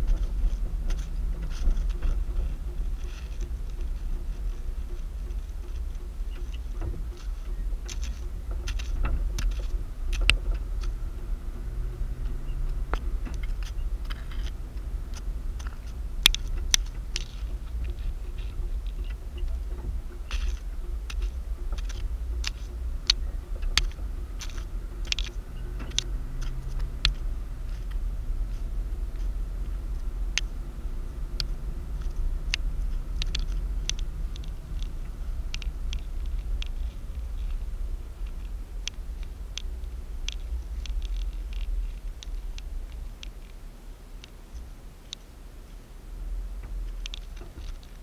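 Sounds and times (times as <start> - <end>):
interior clicks and rattles: 0.0 - 48.0
road and engine rumble: 0.0 - 48.0.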